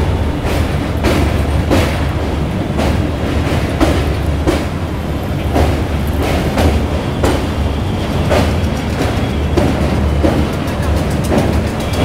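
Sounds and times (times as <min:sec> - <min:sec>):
rhythmic whoosh of girders: 0:00.0 - 0:12.0
train wheels rumbling: 0:00.0 - 0:12.0.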